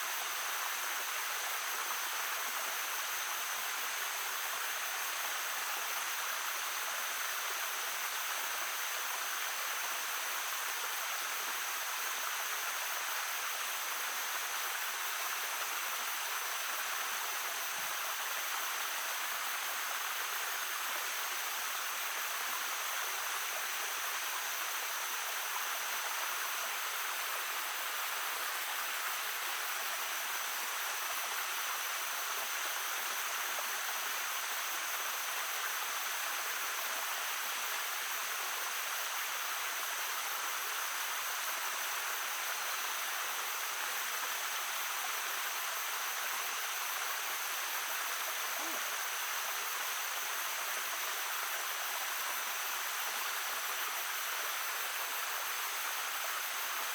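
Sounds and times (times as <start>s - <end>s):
babbling stream: 0.0s - 56.9s.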